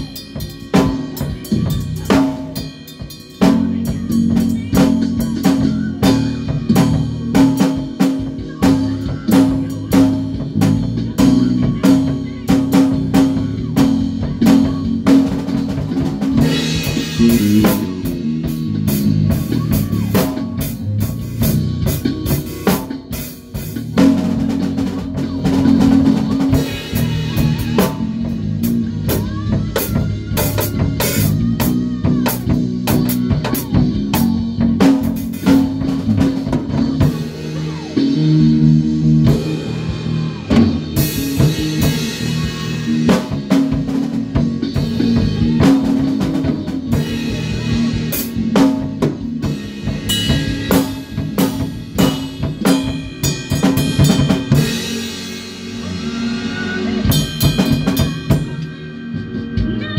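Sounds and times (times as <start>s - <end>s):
band playing: 0.0s - 59.9s
bass guitar line: 0.0s - 59.9s
drum kit beat: 0.0s - 59.9s.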